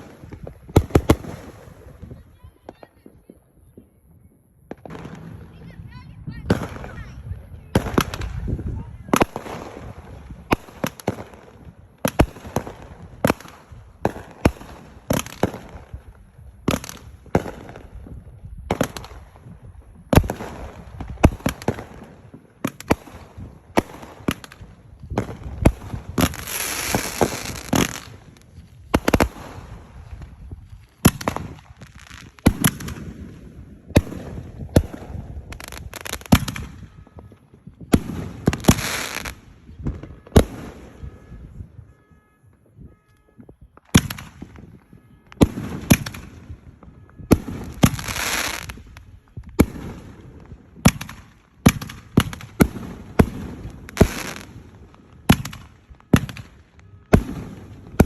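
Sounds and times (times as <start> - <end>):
fireworks banging: 0.0 - 58.0
fireworks crackling: 0.0 - 58.0.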